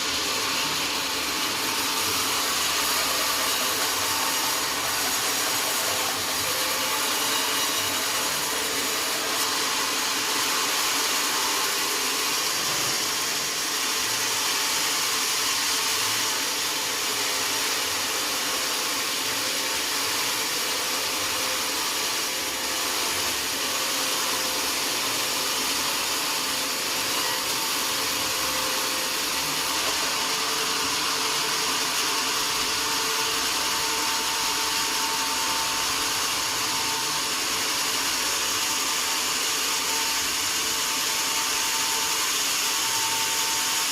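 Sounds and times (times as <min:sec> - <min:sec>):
sawmill saw cutting wood: 0:00.0 - 0:43.9.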